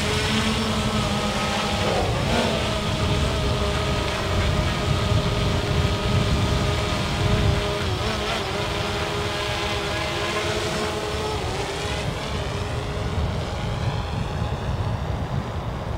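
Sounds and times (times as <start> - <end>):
drone propellers whining: 0.0 - 15.9.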